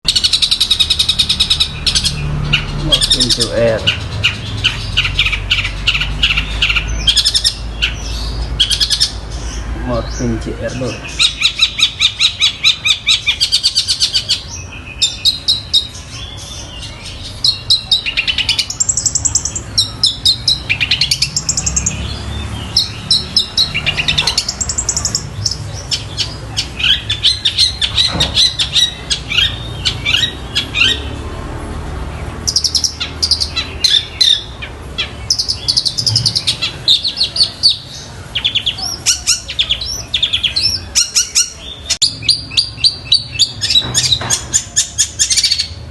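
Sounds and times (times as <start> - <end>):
bird singing rapid chips and trills: 0.0 - 45.9.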